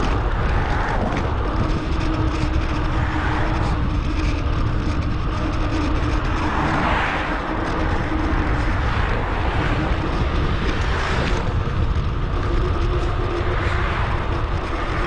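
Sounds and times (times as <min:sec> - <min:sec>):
deep rumble: 0:00.0 - 0:15.0
faint steady hum: 0:00.0 - 0:15.0
wind rushing on microphone: 0:00.0 - 0:15.0.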